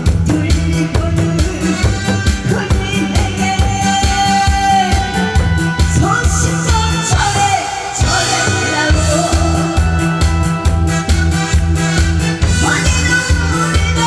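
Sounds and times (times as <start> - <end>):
upbeat pop music with singing: 0.0 - 14.0.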